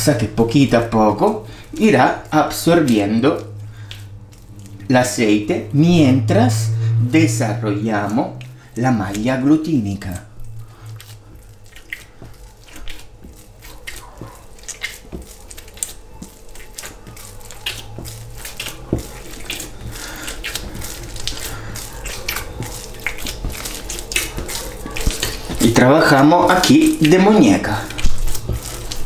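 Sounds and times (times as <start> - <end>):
dough kneaded wet smacks: 0.0 - 29.0
faint low hum: 0.0 - 29.0.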